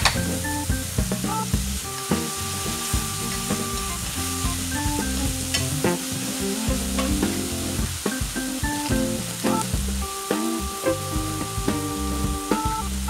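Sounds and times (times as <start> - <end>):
food sizzling in frying pan: 0.2 - 13.0.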